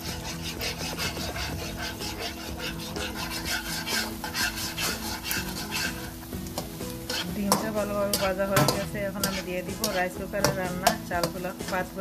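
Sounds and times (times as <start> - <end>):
egg sizzling: 0.0 - 12.0
metal spatula scraping pan: 0.0 - 12.0.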